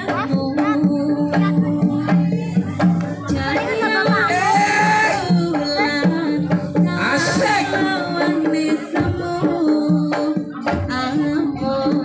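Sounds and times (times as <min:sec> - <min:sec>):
hand drum beats: 0:00.0 - 0:12.0.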